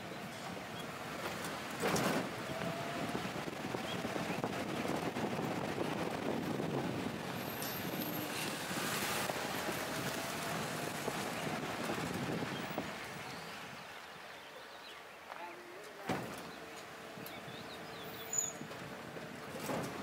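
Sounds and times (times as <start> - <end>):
vehicle rumbling on road: 0.0 - 20.0.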